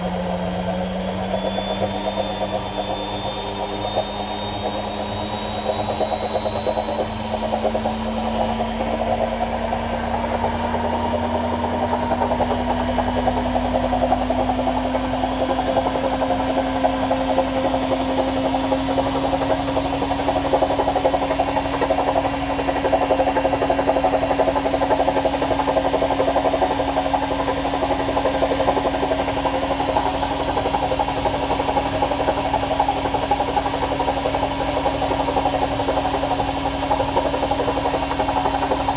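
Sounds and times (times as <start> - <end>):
washing machine motor whine: 0.0 - 38.9.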